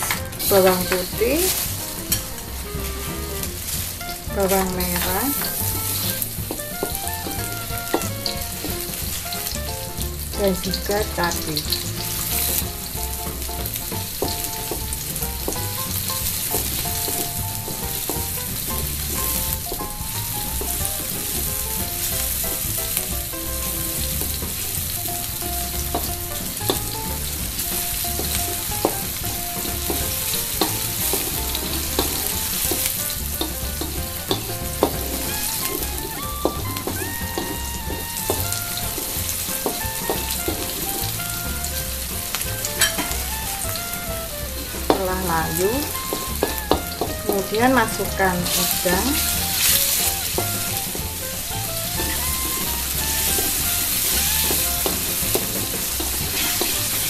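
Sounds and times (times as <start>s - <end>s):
vegetables sizzling in hot oil: 0.0s - 57.0s
wooden spatula scraping a wok: 0.0s - 57.0s.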